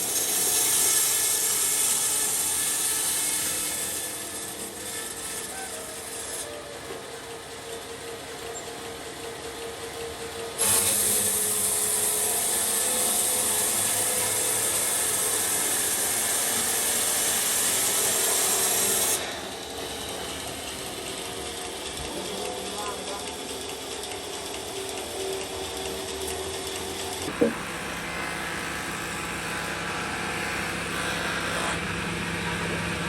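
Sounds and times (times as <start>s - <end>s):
sawmill saw cutting wood: 0.0s - 8.0s, 10.0s - 33.0s.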